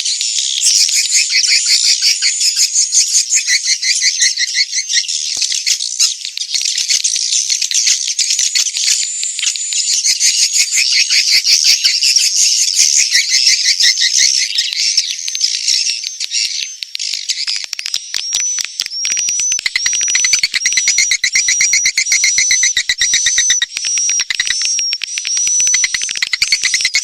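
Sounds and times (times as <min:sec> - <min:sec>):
chorus of rattling bird chirps: 0:00.0 - 0:27.0.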